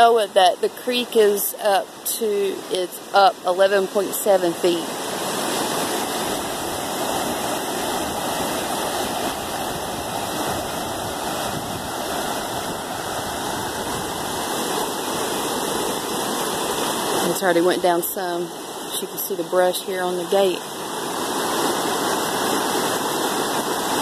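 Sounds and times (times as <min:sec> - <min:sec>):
fast water rushing: 0:00.0 - 0:24.0.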